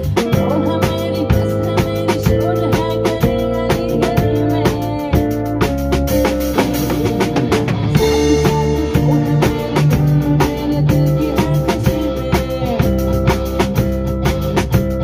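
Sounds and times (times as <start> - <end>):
drum beat with cymbals: 0.0 - 15.0
live band playing: 0.0 - 15.0.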